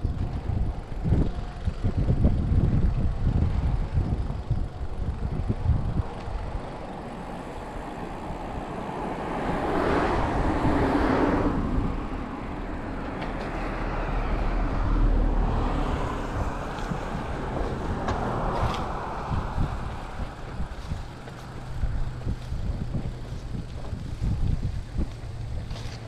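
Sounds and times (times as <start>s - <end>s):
cars passing: 0.0s - 26.0s
wind rushing over microphone: 0.0s - 26.0s.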